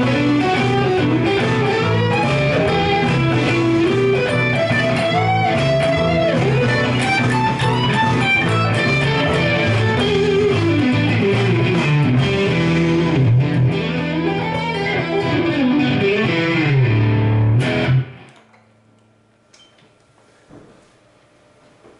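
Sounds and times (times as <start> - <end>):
bluesy electric guitar: 0.0 - 18.4
faint amp hum: 0.0 - 21.9.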